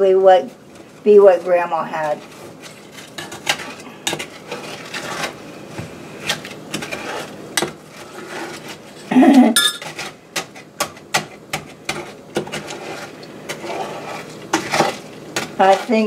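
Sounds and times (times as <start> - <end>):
wooden spoon stirring in saucepan: 0.6 - 16.0.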